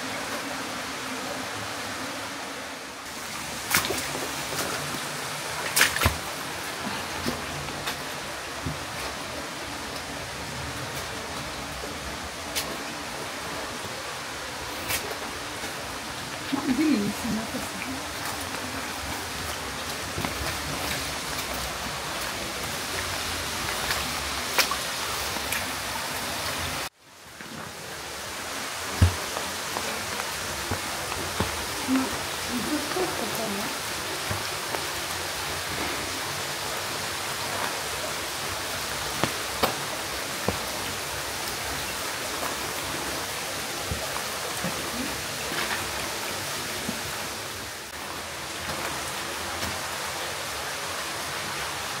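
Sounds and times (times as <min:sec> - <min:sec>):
stream water rushing: 0:00.0 - 0:52.0
water splashes: 0:00.0 - 0:52.0.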